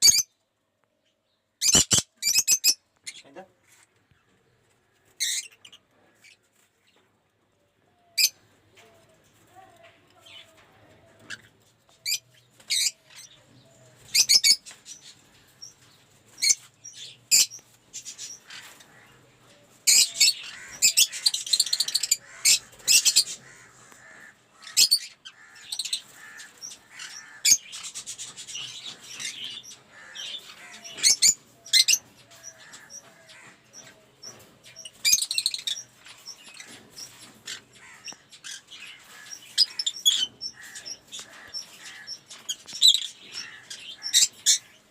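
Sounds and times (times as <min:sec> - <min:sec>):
lovebirds chirping and screeching: 0:00.0 - 0:00.3, 0:01.6 - 0:03.4, 0:04.9 - 0:07.0, 0:08.1 - 0:08.9, 0:10.2 - 0:44.9.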